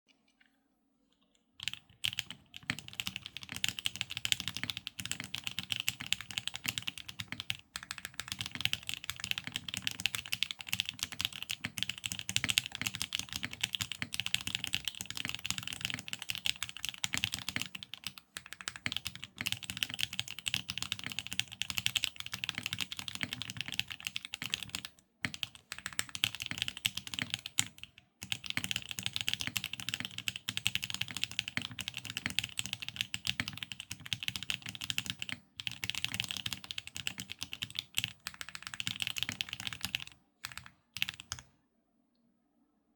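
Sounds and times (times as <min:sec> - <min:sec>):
mechanical keyboard typing: 0:01.6 - 0:41.5.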